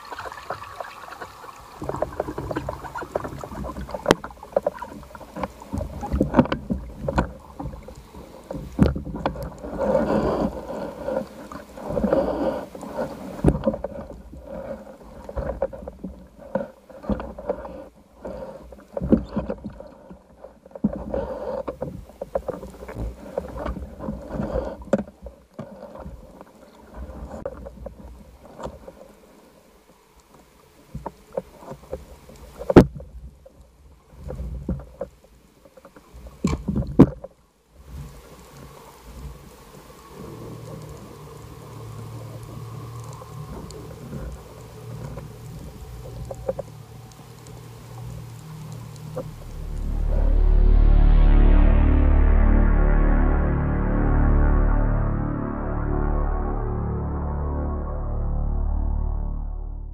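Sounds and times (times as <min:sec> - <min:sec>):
muffled water sloshing and bubbling: 0:00.0 - 0:59.9.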